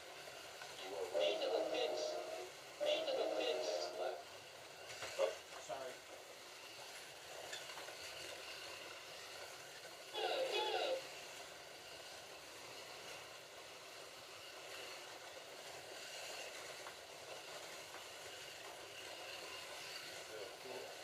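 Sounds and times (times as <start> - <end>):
slot cars whirring on track: 0.0 - 21.0.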